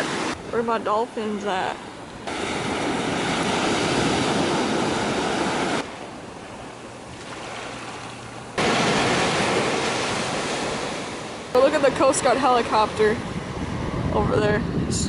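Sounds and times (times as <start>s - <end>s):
ocean waves breaking on beach: 0.0s - 14.9s.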